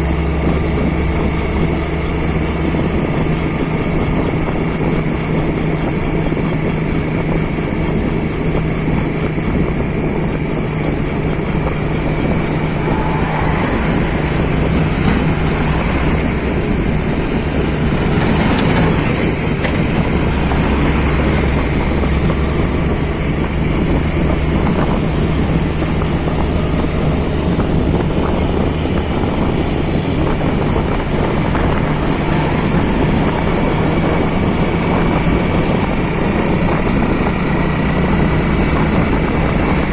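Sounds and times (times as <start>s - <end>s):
deeper rumble: 0.0s - 39.9s
diesel engine running: 0.0s - 39.9s.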